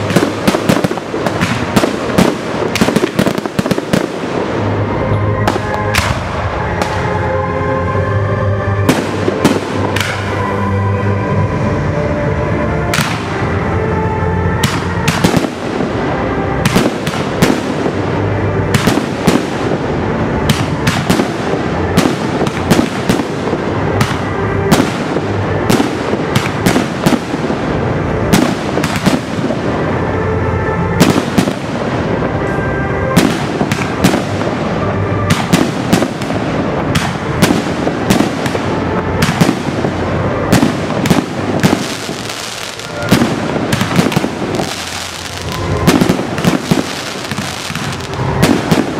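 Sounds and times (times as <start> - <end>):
fireworks bursting: 0.0 - 7.3, 8.8 - 10.7, 12.9 - 13.8, 14.5 - 48.9.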